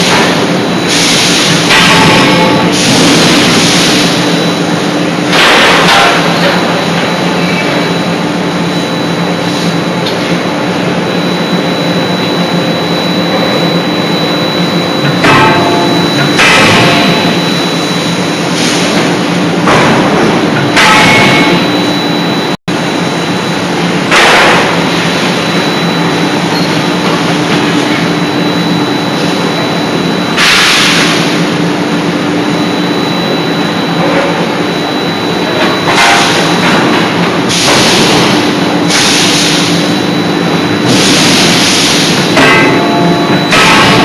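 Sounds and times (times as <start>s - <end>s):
machinery hum: 0.0s - 44.0s.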